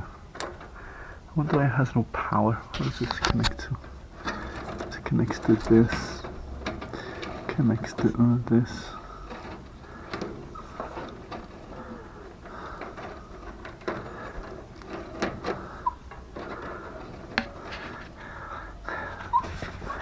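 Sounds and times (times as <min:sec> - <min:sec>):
rustling of wiring and plastic parts: 0:00.0 - 0:20.0
sharp clicks and knocks: 0:00.3 - 0:00.8, 0:02.6 - 0:20.0.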